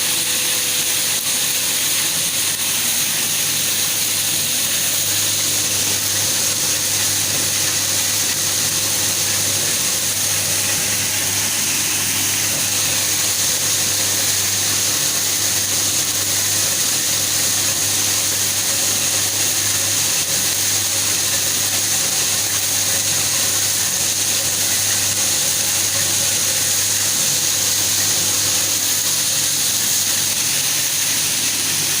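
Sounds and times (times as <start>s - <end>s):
machine whirring: 0.0s - 32.0s.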